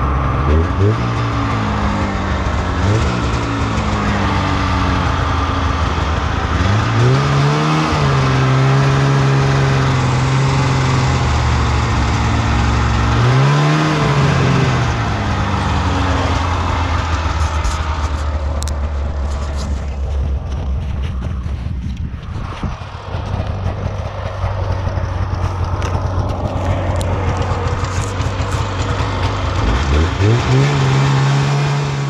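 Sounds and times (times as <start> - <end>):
vehicle engine speeding up: 0.0 - 32.0.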